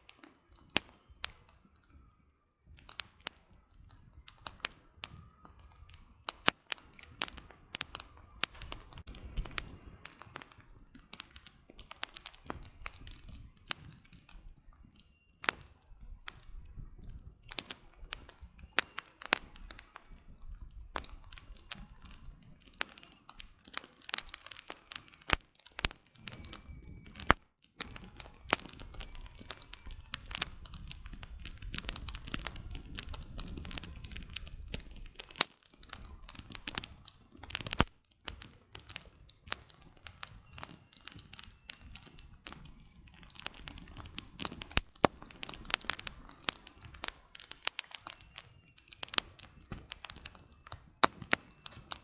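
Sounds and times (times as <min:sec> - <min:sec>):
firewood crackling and popping: 0:00.0 - 0:52.0
low rumble of flames: 0:00.0 - 0:52.0.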